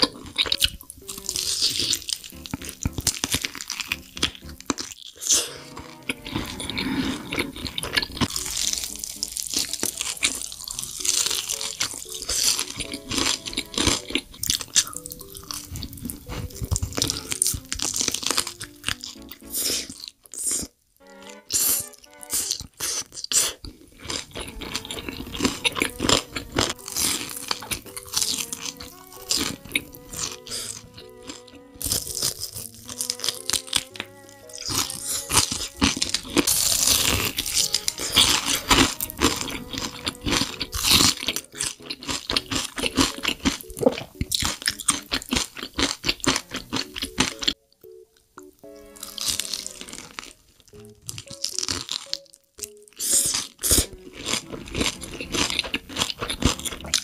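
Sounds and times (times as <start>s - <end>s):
crunchy bites and chewing: 0.0s - 20.7s, 21.5s - 47.6s, 48.9s - 57.0s
soft background music: 0.0s - 57.0s.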